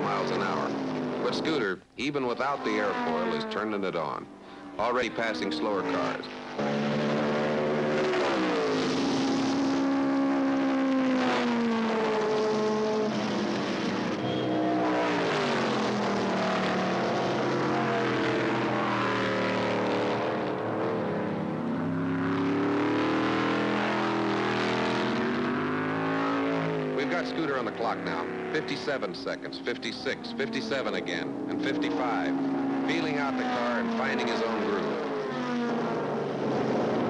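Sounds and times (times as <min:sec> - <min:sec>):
racing car engines: 0:00.0 - 0:37.0.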